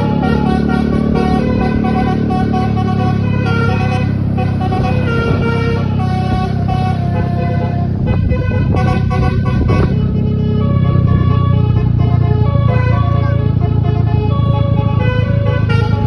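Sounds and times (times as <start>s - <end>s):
multi-tone air horn melody: 0.0s - 16.0s
steady low rumble: 0.0s - 16.0s.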